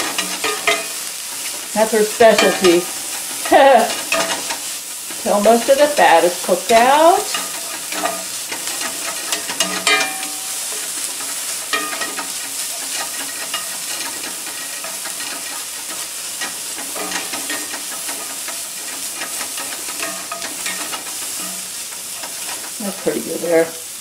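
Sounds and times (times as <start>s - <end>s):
bacon sizzling in skillet: 0.0s - 24.0s
spatula scraping pan: 0.0s - 24.0s.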